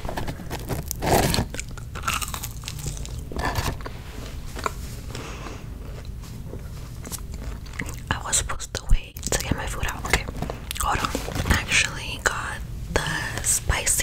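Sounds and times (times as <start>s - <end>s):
crunchy fries chewing: 0.0s - 12.0s.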